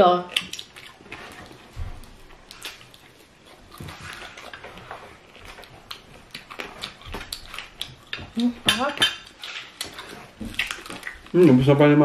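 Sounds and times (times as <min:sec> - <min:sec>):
person chewing crunchy food: 0:00.2 - 0:11.6.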